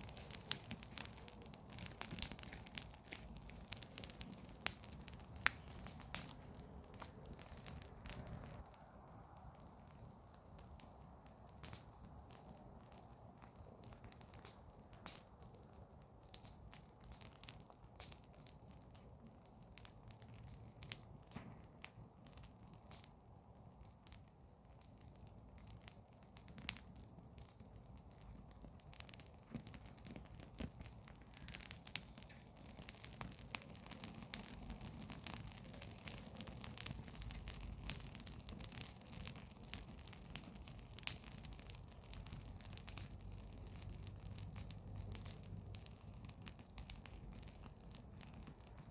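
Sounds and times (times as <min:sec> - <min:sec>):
fire crackling: 0:00.0 - 0:48.9
fire popping and snapping: 0:00.0 - 0:48.9.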